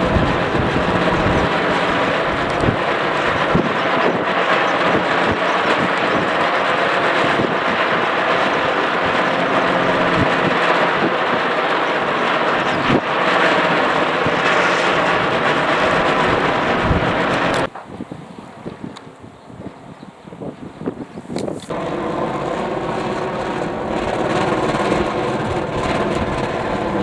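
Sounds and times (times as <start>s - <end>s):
faint drone: 0.0s - 5.8s, 6.4s - 17.7s, 21.7s - 27.0s
wind rushing over microphone: 0.0s - 27.0s.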